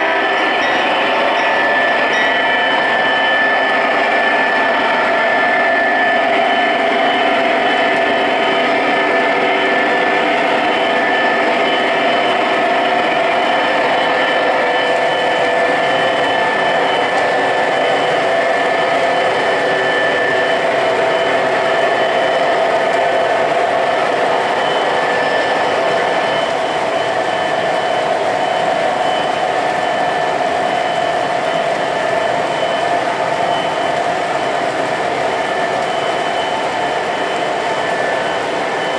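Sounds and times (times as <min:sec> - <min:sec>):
thin high whine: 0:00.0 - 0:38.9.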